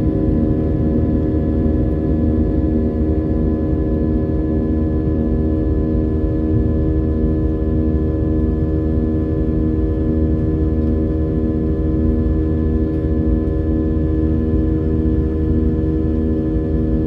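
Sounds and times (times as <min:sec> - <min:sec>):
aircraft cabin engine drone: 0:00.0 - 0:17.0.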